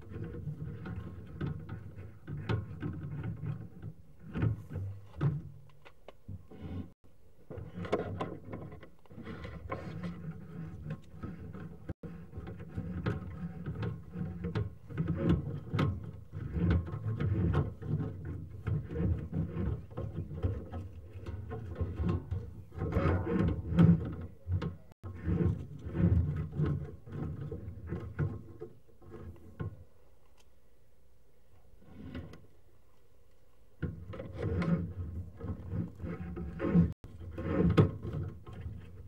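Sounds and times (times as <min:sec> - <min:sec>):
cable knocking and scraping: 0:00.0 - 0:29.8, 0:31.8 - 0:32.5, 0:33.8 - 0:39.0.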